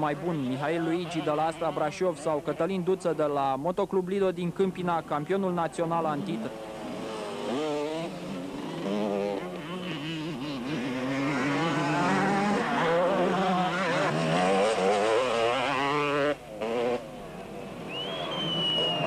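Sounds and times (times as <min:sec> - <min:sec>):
motorcycle engines revving: 0:00.0 - 0:03.4, 0:05.0 - 0:19.0.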